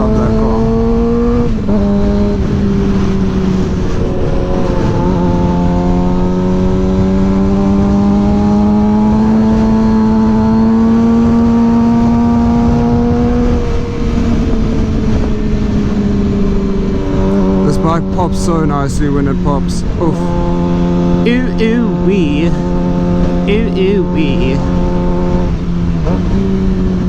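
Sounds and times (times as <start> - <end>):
wind rumble on microphone: 0.0 - 21.3, 24.4 - 27.0
motorcycle engine revving: 0.0 - 27.0.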